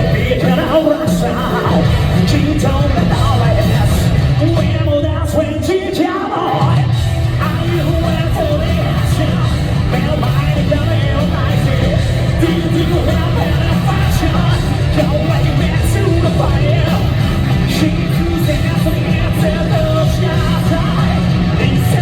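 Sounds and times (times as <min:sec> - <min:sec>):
man singing: 0:00.0 - 0:22.0
rock band playing: 0:00.0 - 0:22.0.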